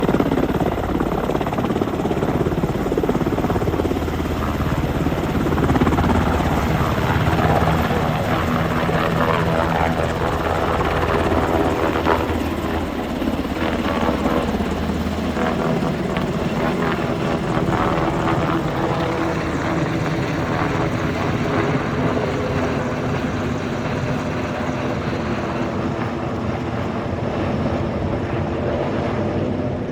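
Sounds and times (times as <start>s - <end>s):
helicopter rotor and engine: 0.0s - 29.9s.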